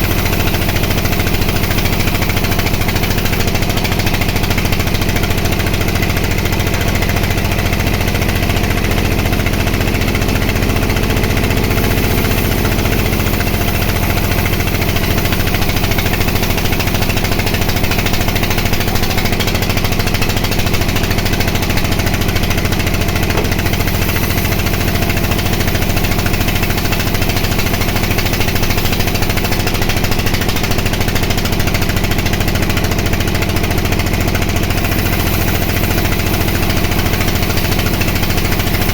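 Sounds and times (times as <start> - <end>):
band saw machine humming: 0.0 - 38.9.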